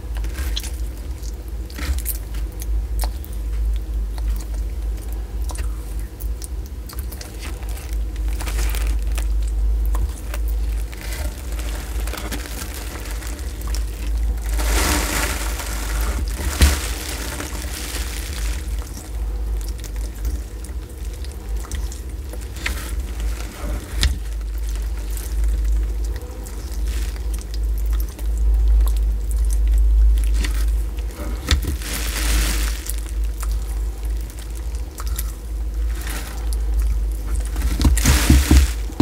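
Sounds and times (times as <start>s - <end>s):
fruit tearing and mashing: 0.0s - 39.0s
low steady rumble: 0.0s - 39.0s.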